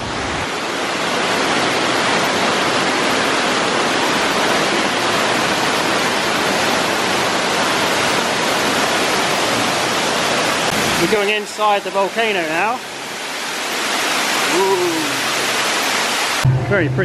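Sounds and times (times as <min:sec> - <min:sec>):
waterfall rushing and splashing: 0:00.0 - 0:16.6.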